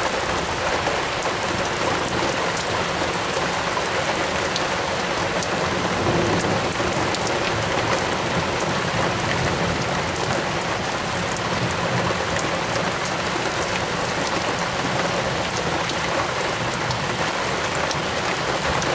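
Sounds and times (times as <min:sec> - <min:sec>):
raindrops ticking close by: 0:00.0 - 0:18.9.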